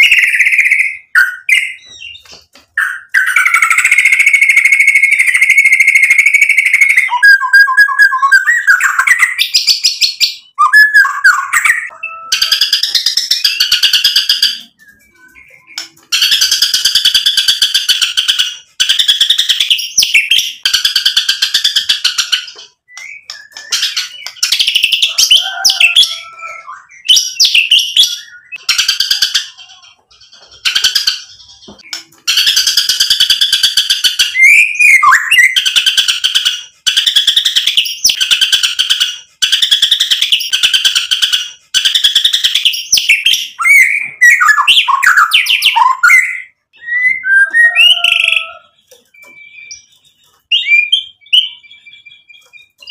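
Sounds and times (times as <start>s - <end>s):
bird singing harsh rapid notes: 0.0s - 52.9s.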